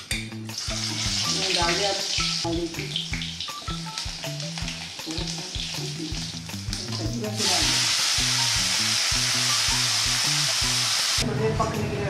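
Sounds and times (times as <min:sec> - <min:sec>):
hot oil crackling: 0:00.1 - 0:11.2
greens sizzling in oil: 0:00.5 - 0:11.2.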